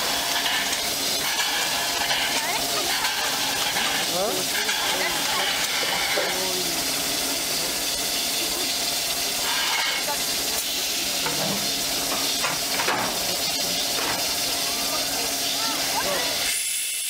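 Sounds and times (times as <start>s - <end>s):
faint voices: 0.0s - 16.5s
steam locomotive hissing steam: 0.0s - 17.0s.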